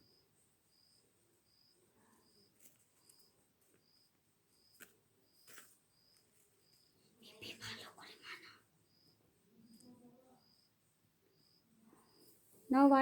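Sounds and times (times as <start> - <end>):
faint high insect chirp: 0.0 - 13.0.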